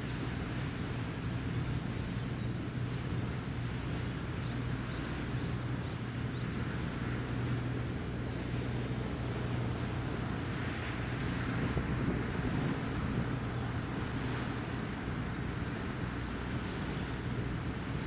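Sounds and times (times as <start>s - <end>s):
boat engine drone: 0.0s - 18.0s.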